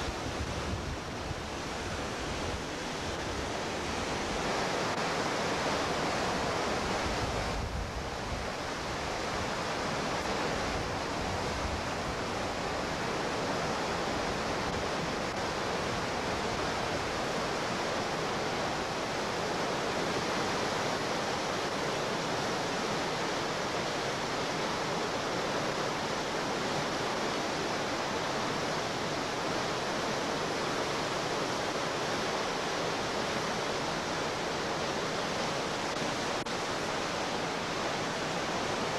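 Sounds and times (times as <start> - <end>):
whitewater rapids rushing: 0.0 - 38.9.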